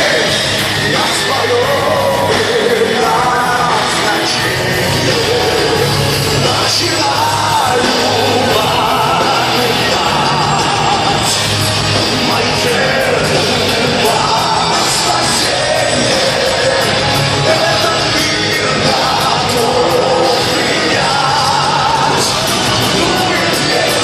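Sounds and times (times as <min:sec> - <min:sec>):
metal band playing live: 0:00.0 - 0:24.0.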